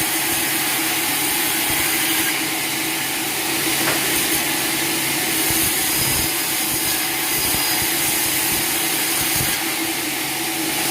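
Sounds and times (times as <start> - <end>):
sawmill machinery drone: 0.0 - 10.9.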